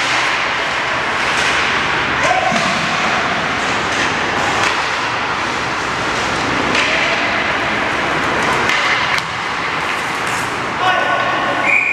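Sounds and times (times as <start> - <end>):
hockey sticks and puck clacking: 0.0 - 11.8.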